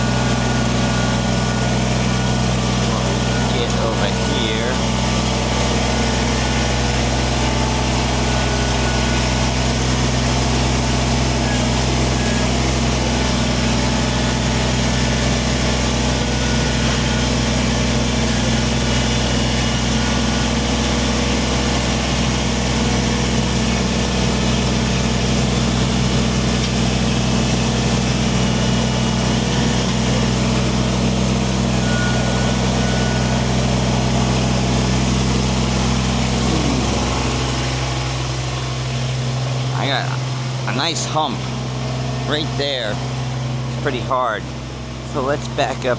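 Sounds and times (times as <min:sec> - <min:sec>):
diesel tractor engine running: 0:00.0 - 0:45.9.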